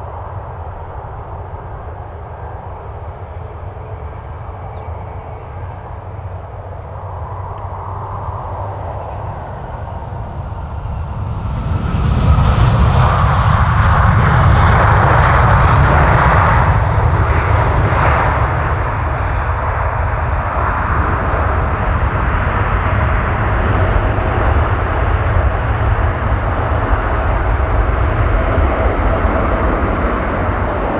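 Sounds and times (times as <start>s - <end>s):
jet airliner engines rumbling: 0.0s - 30.9s.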